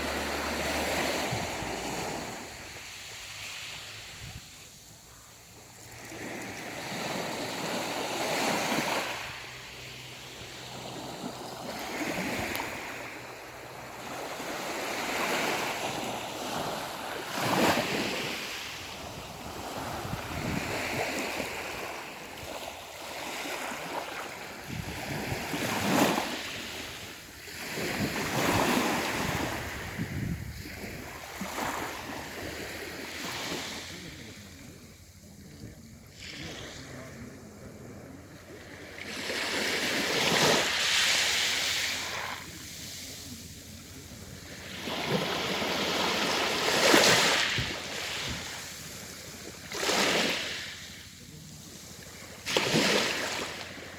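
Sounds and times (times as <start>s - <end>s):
sea waves crashing: 0.0s - 38.2s, 38.9s - 50.8s.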